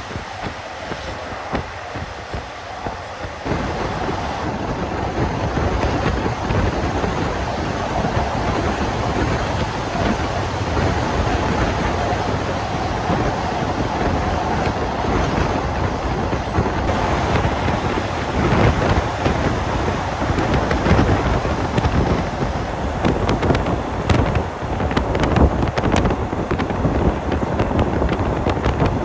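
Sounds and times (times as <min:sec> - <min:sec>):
train wind and rolling noise: 0:00.0 - 0:29.0
wheels clacking on track: 0:00.0 - 0:29.0.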